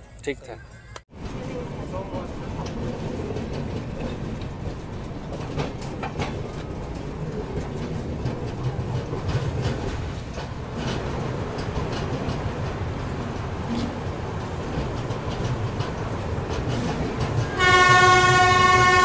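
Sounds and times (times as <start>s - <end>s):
train wheels rumbling on rails: 1.1s - 19.0s.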